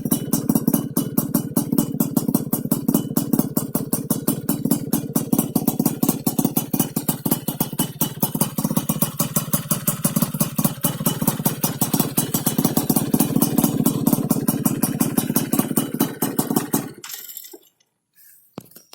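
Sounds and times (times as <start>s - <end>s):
two-stroke engine idling: 0.0s - 17.2s.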